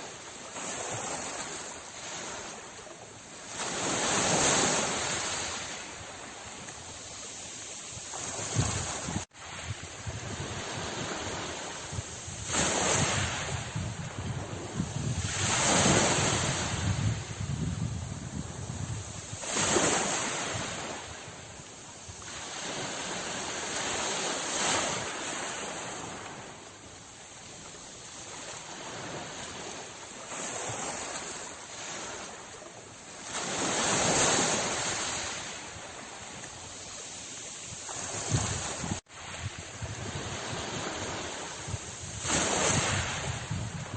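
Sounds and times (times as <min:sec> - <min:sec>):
sea waves washing onto shore: 0:00.0 - 0:43.9.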